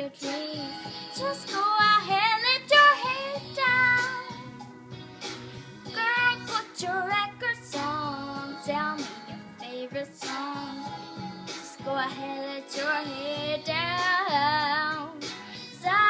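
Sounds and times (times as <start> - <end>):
girl singing pop song: 0.0 - 16.0
instrumental backing music: 0.0 - 16.0.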